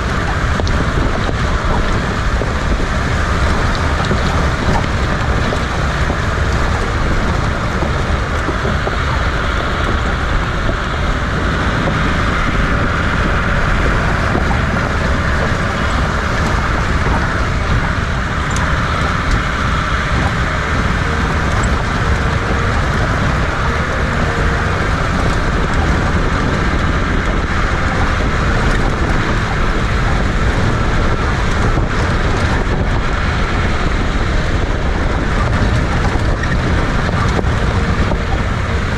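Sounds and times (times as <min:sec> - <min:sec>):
jeep engine running: 0:00.0 - 0:38.9
tyres on dirt track: 0:00.0 - 0:38.9
wind buffeting microphone: 0:00.0 - 0:38.9.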